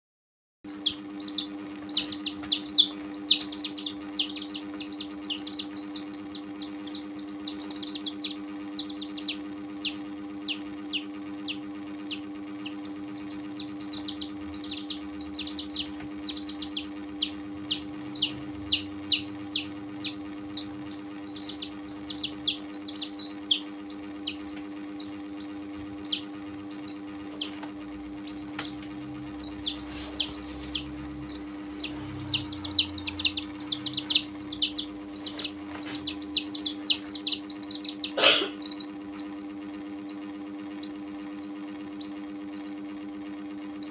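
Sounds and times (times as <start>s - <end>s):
baby chicks peeping: 0.7s - 43.9s
low hum: 0.7s - 43.9s.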